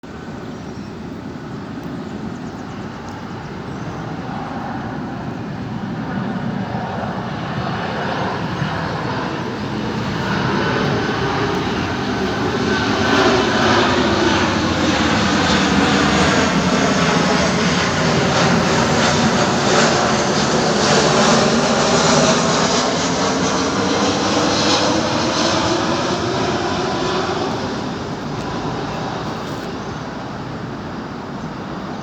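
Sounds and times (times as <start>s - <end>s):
jet engines with faint whine: 0.0s - 32.0s.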